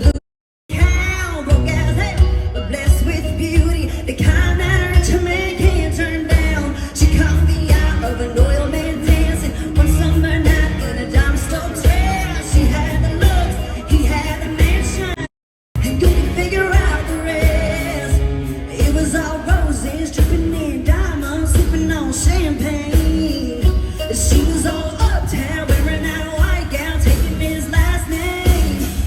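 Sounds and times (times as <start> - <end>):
steady drum beat: 0.0 - 15.2, 15.8 - 29.0
live country-pop band: 0.0 - 29.0
woman singing: 0.0 - 29.0.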